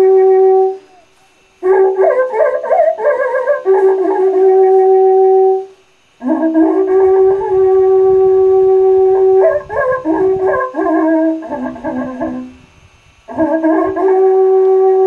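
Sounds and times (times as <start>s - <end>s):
horn notes blown: 0.0s - 2.0s, 3.7s - 12.7s, 13.3s - 15.0s.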